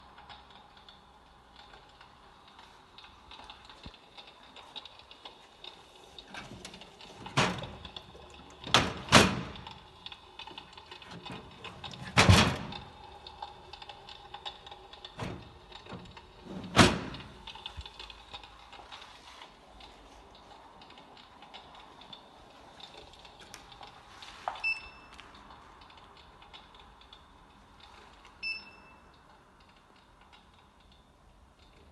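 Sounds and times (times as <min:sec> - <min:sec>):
fire popping and snapping: 0:00.0 - 0:28.4, 0:29.0 - 0:31.9
fire crackling: 0:00.0 - 0:31.9.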